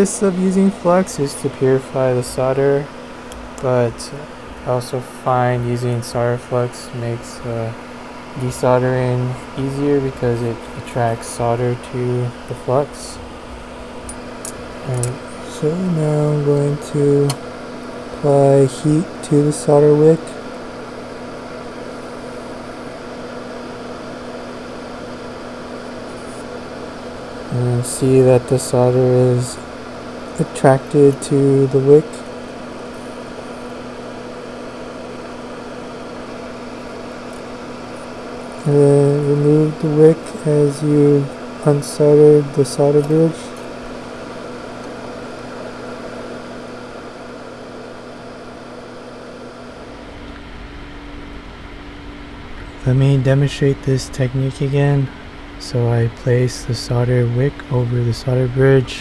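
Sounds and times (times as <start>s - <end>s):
constant hum: 0.0s - 59.0s
fume extractor fan hissing: 0.0s - 59.0s.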